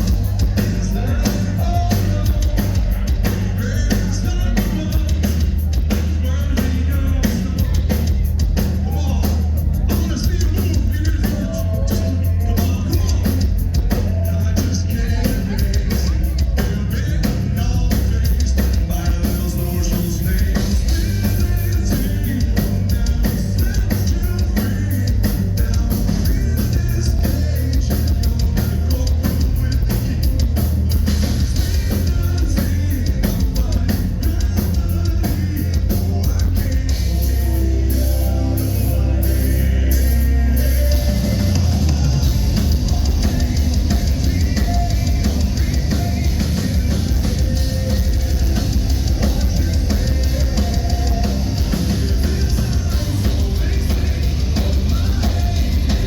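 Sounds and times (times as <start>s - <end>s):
heavy metal band playing: 0.0s - 56.0s
person singing: 0.0s - 56.0s.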